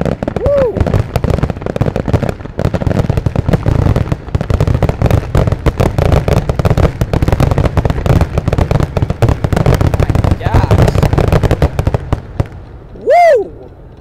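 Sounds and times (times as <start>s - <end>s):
deep rumble of booms: 0.0s - 14.0s
fireworks bangs and crackles: 0.0s - 14.0s.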